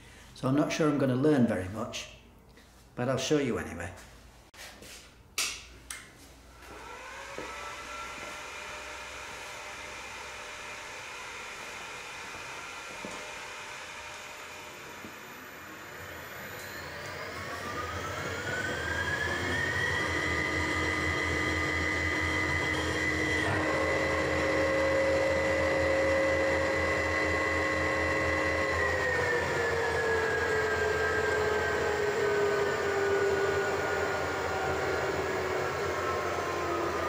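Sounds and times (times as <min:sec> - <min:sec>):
lathe motor whine: 0:06.6 - 0:37.0.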